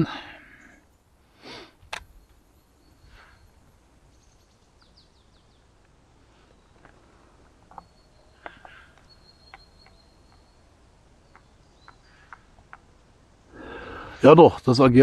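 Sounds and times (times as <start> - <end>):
bird chirping: 1.8 - 14.1.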